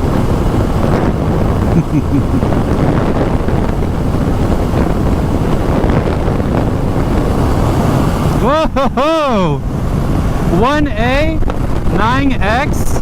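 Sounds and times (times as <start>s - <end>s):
road and engine rumble: 0.0s - 13.0s
wind buffeting microphone: 0.0s - 13.0s.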